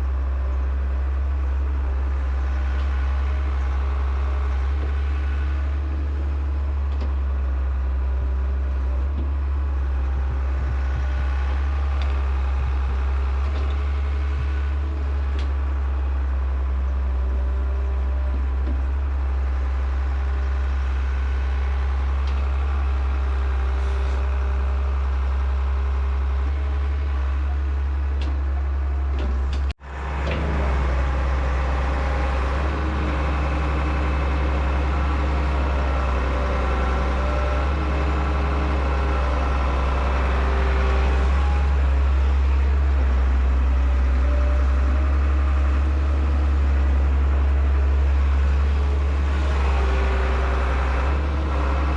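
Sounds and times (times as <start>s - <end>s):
excavator diesel engine droning: 0.0s - 51.9s.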